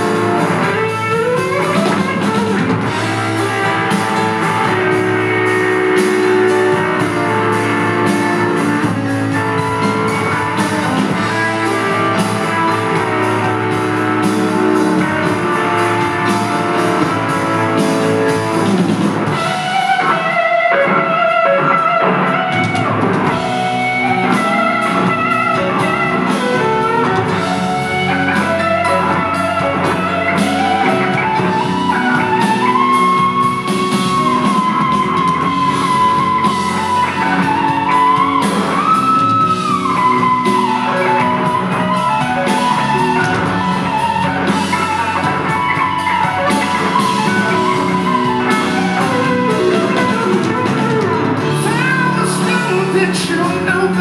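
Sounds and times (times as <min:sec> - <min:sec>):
electric guitar lead: 0:00.0 - 0:54.0
rock band playing: 0:00.0 - 0:54.0.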